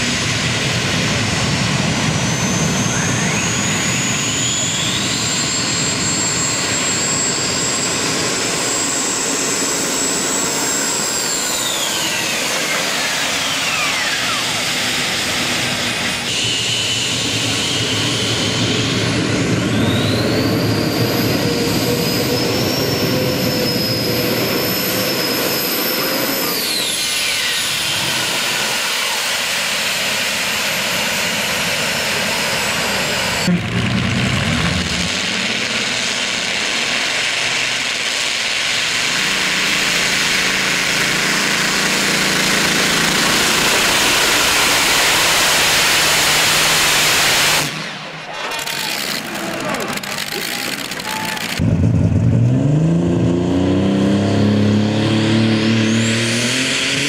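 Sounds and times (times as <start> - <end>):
high engine whine: 0.0 - 57.0
tractor engines at full power: 0.0 - 57.0.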